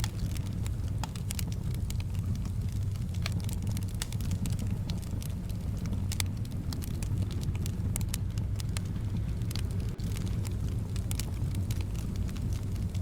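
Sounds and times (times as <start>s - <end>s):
soft wind rumble: 0.0s - 13.0s
wood fire crackling: 0.0s - 13.0s.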